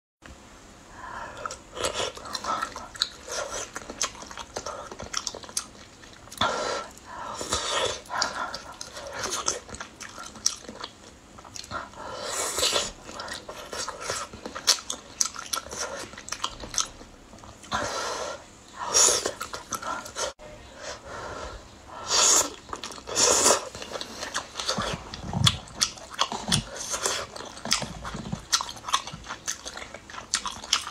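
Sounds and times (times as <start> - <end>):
person chewing food: 1.3 - 18.2, 18.8 - 20.4, 22.1 - 30.9.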